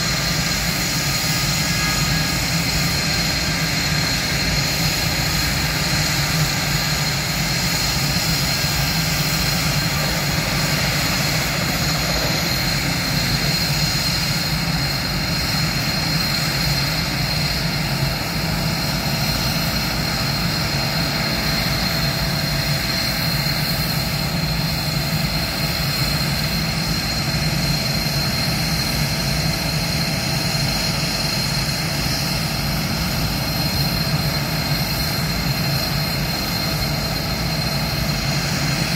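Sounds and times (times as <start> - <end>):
jet engines idling: 0.0 - 38.9.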